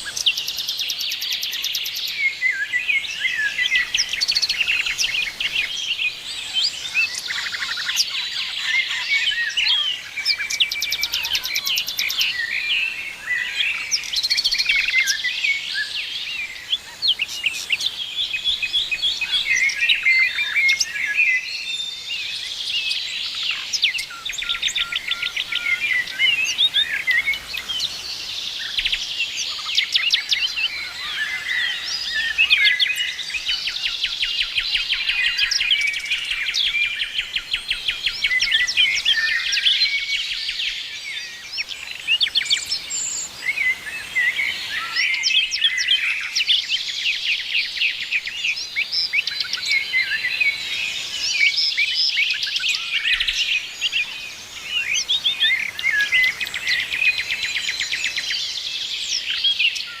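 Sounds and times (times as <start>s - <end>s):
songbirds chirping and singing: 0.0s - 60.0s.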